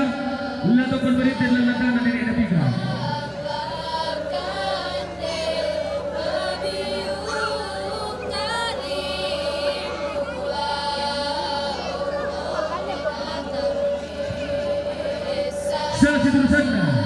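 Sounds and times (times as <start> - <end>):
group of people singing: 0.0 - 17.0.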